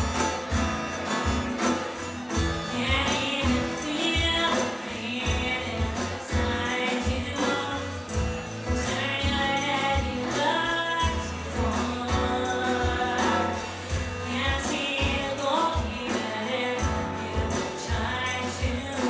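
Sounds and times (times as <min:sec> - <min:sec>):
acoustic guitar: 0:00.0 - 0:19.0
drums: 0:00.0 - 0:19.0
tambourine: 0:00.0 - 0:19.0
woman singing: 0:02.6 - 0:19.0.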